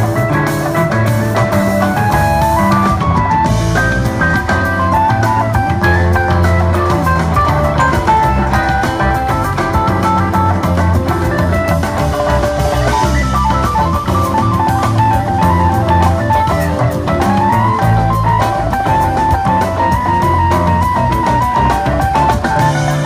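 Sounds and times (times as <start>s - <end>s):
electric guitar lead melody: 0.0s - 23.0s
rock band playing: 0.0s - 23.0s.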